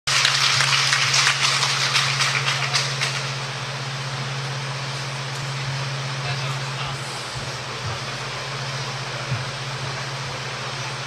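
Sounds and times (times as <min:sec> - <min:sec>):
steady low hum: 0:00.1 - 0:11.0.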